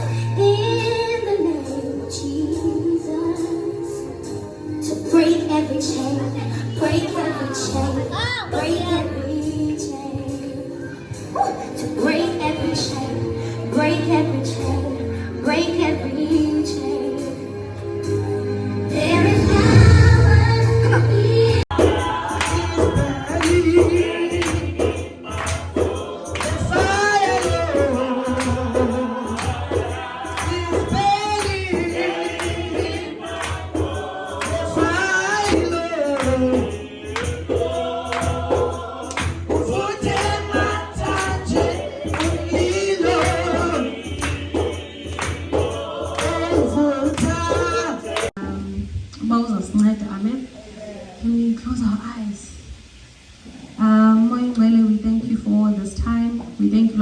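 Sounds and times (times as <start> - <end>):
tambourine beat: 0.0 - 20.1, 20.9 - 48.4
gospel choir singing: 0.0 - 48.6.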